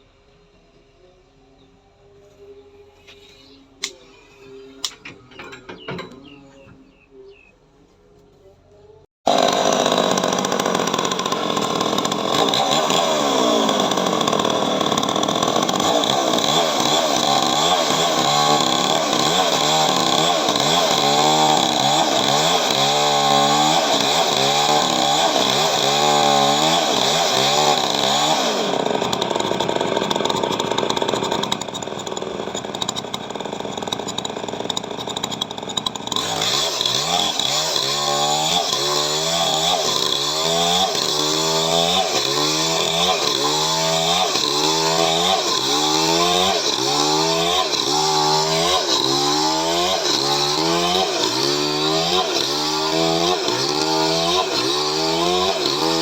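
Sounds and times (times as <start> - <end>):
chainsaw cutting wood: 9.3 - 56.0.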